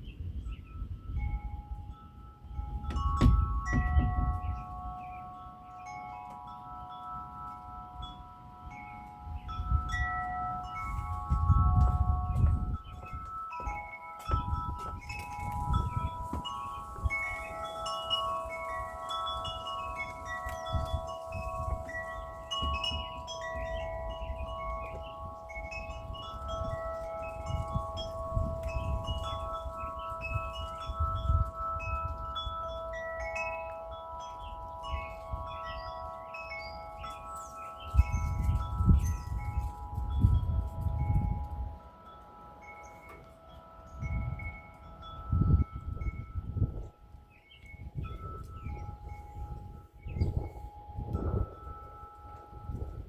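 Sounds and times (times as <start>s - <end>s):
low rumbling wind gusts: 0.0s - 53.0s
metal wind chimes ringing: 0.0s - 53.0s.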